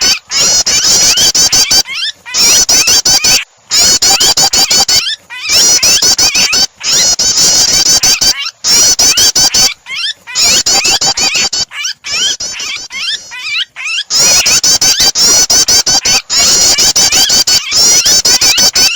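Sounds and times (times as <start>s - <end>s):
small bird chirping: 0.0s - 18.9s
trapped bird distress calls: 0.0s - 18.9s.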